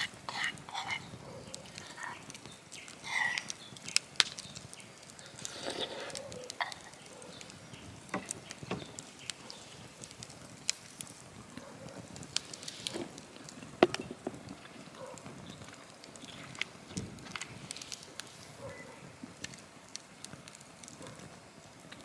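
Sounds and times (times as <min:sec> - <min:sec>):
wood bonfire crackling: 0:00.0 - 0:22.0
sharp fire pops: 0:02.3 - 0:22.0.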